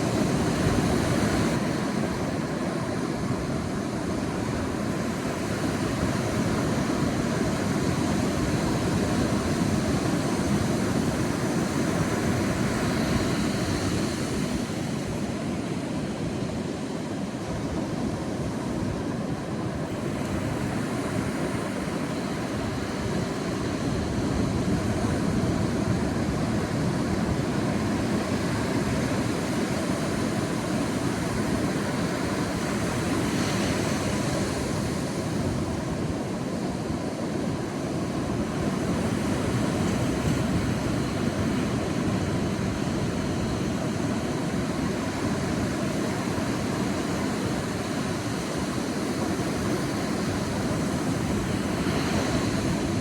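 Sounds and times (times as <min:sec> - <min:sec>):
waves washing onto beach: 0:00.0 - 0:53.0.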